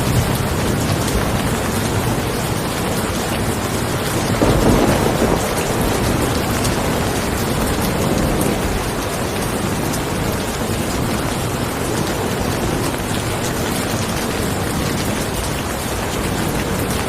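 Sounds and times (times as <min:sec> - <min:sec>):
low rumble of thunder: 0:00.0 - 0:17.0
steady rain: 0:00.0 - 0:17.0.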